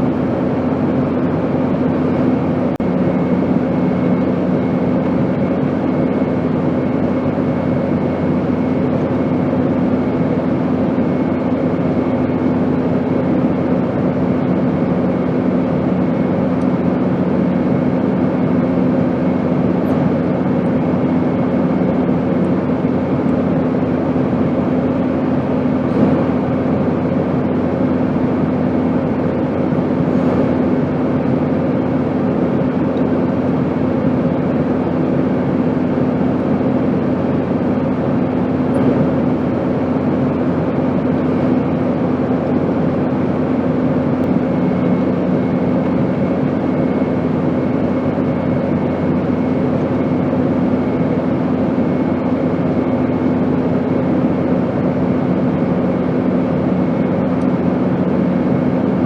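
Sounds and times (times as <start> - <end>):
airplane in flight drone: 0.0 - 59.0
constant low hum: 0.0 - 59.0.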